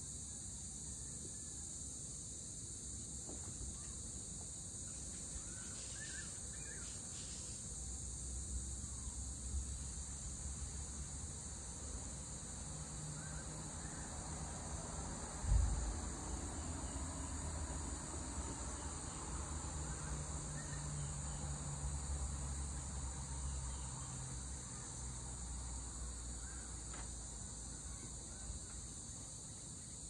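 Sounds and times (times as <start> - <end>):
insect chorus: 0.0 - 30.0.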